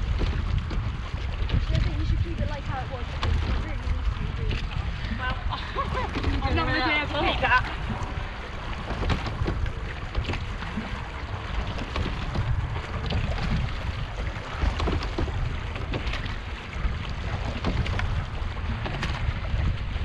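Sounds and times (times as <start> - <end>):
splashes and knocks: 0.0 - 20.0
water rushing past hull: 0.0 - 20.0
wind buffeting microphone: 0.0 - 20.0.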